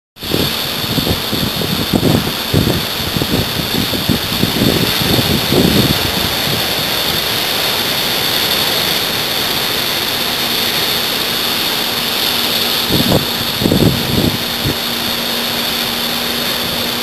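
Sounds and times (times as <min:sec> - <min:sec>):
breaking surf: 0:00.2 - 0:17.0
wind: 0:00.2 - 0:17.0
wind buffeting microphone: 0:00.2 - 0:17.0.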